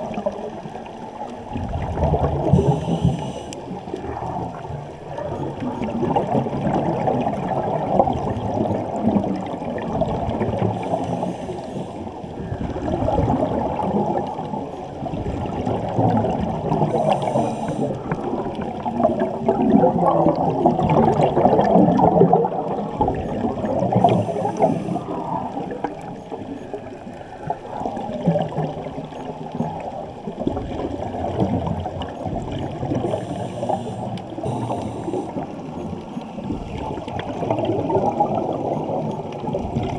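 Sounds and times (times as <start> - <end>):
crackling bubbles: 0.0 - 39.9
muffled underwater water sloshing: 0.0 - 39.9.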